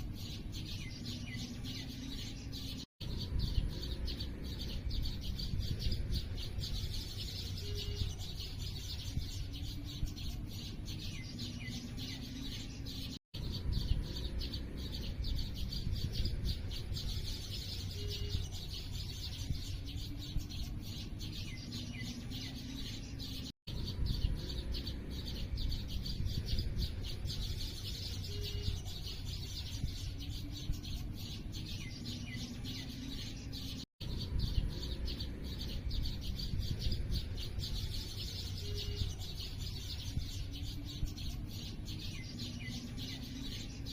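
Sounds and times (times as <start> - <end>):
small birds chirping: 0.0 - 43.9
steady low rumble: 3.0 - 23.0, 23.7 - 33.2, 34.0 - 42.8.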